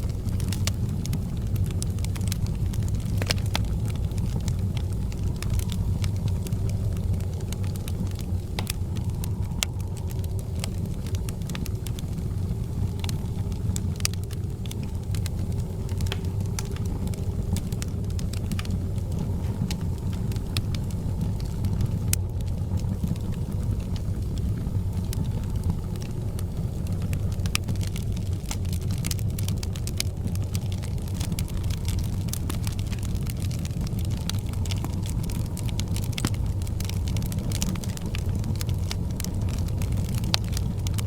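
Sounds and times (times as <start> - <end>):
fire crackling and popping: 0.0 - 41.0
fire low rumble: 0.0 - 41.0.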